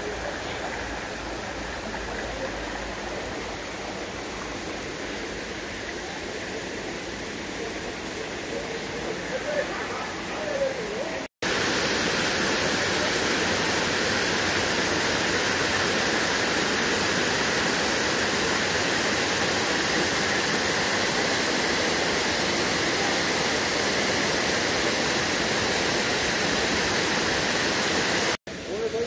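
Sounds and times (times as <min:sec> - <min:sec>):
river water rushing: 0:00.0 - 0:28.4.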